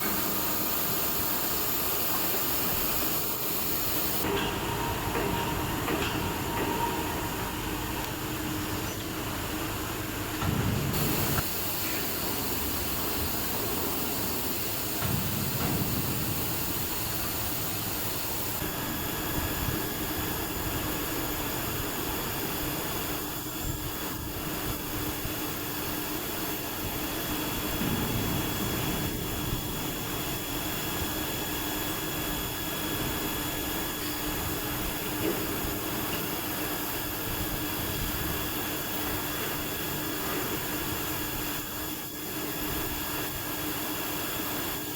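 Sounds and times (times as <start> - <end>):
machine mechanical whirr: 0.0 - 43.6
high steady whine: 0.0 - 44.9.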